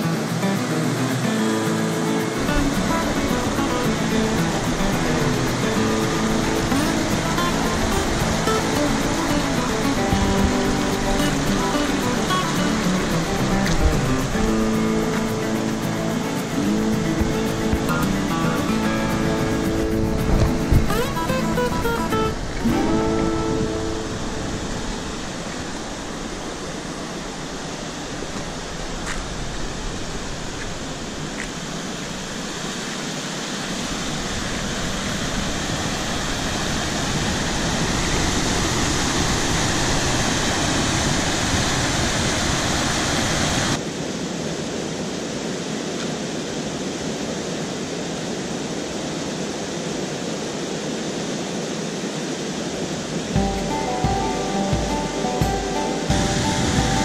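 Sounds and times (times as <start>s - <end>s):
rushing white water: 0.0s - 57.0s.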